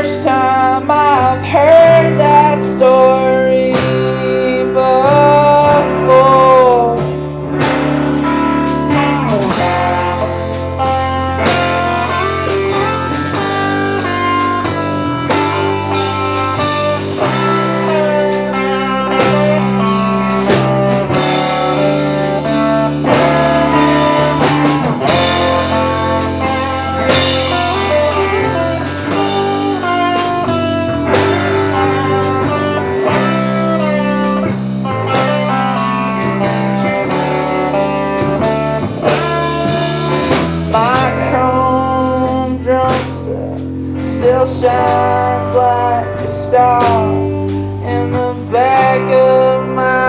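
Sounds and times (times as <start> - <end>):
bass guitar: 0.0 - 50.0
drum kit hits: 0.0 - 50.0
guitar lines: 0.0 - 50.0.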